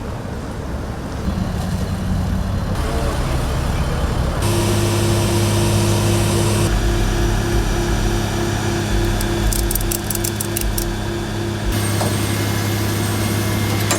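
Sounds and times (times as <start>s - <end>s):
large vehicle engine rumbling: 0.0s - 13.9s.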